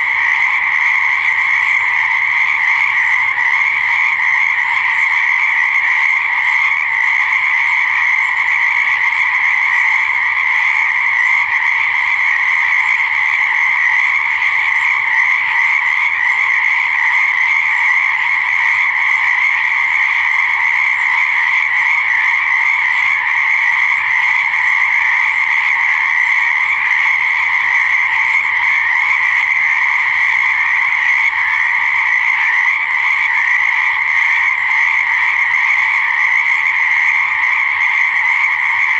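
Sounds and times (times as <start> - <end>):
chorus of frogs calling: 0.0 - 38.9.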